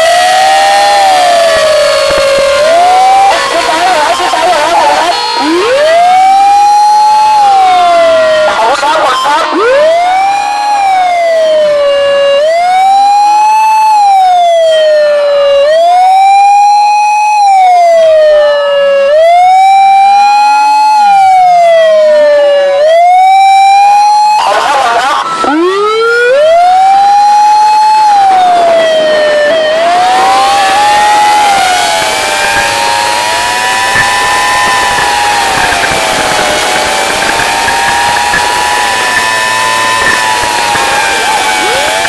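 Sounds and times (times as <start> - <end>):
fire truck siren wailing: 0.0 - 42.0.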